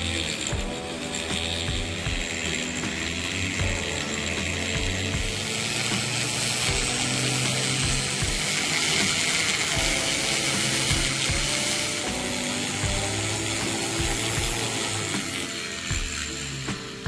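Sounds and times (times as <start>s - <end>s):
background music: 0.0s - 17.0s
rotary tool grinding hiss: 0.0s - 17.0s.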